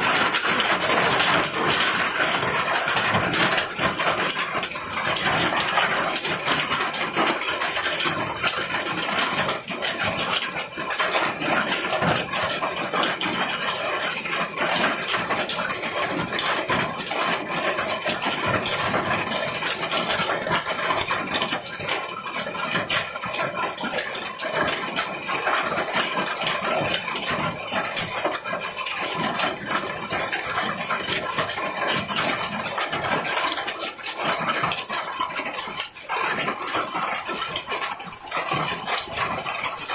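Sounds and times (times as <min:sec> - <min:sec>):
hail clattering: 0:00.0 - 0:39.9.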